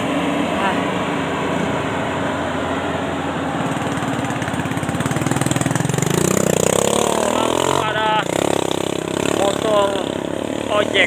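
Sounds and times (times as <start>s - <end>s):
diesel engine running: 0.0s - 11.0s
motorcycle engine passing: 0.0s - 11.0s.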